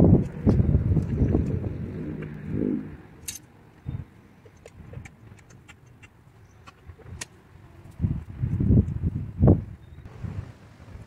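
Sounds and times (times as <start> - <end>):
wind rumble on microphone: 0.0 - 5.7, 6.6 - 11.0.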